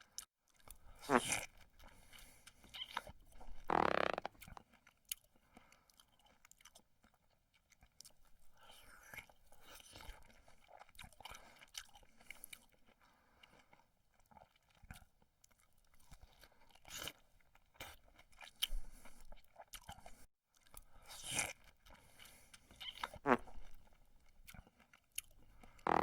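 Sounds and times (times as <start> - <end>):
chewing and crunching: 0.0 - 26.0.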